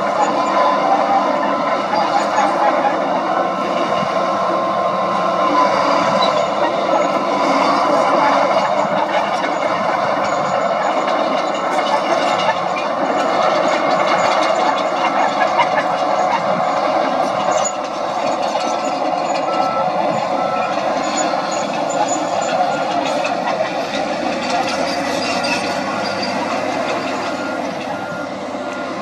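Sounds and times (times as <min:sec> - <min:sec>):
bulldozer diesel engine under load: 0:00.0 - 0:29.0.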